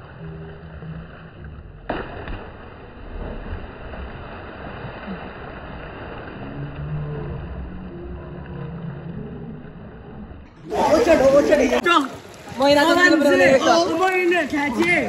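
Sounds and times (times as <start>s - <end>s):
water splashing and churning: 0.0s - 15.0s.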